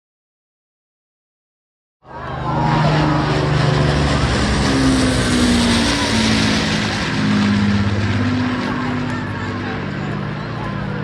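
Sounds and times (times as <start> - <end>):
propeller aircraft flying past: 2.1 - 11.0.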